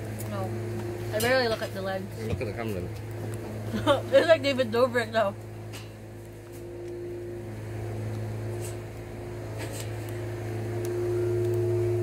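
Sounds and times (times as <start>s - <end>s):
mechanical drone: 0.0s - 12.0s.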